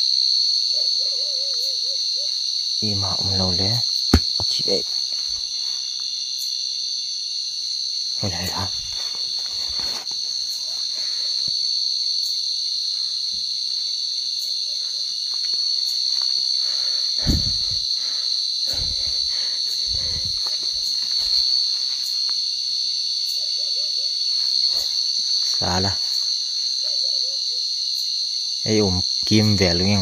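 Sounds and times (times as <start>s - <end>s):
night insects chorus: 0.0s - 30.0s.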